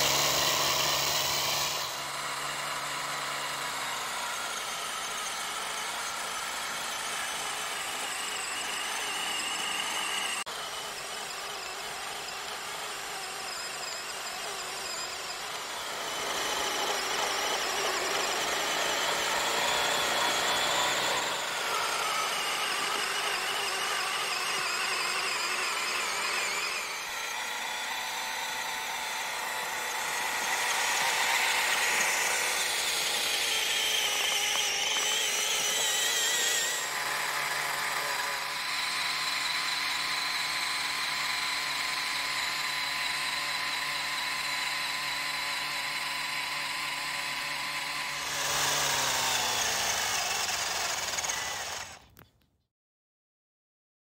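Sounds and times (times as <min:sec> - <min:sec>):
electric motors whining: 0:00.0 - 0:52.2.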